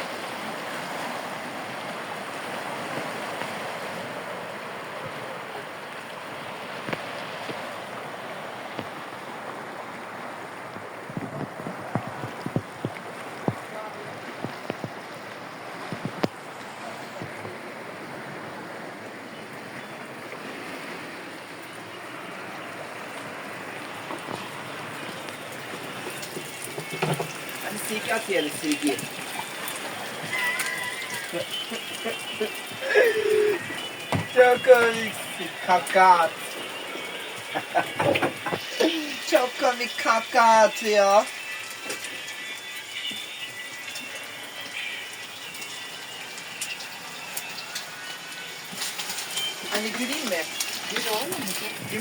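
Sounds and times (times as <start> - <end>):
rushing wind or water: 0.0 - 52.0.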